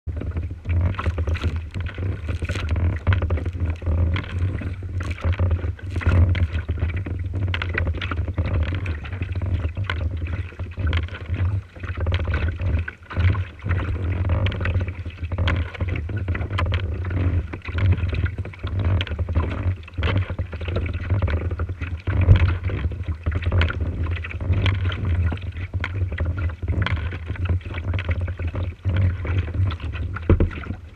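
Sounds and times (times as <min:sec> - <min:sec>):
water splashing against hull: 0:00.0 - 0:30.9.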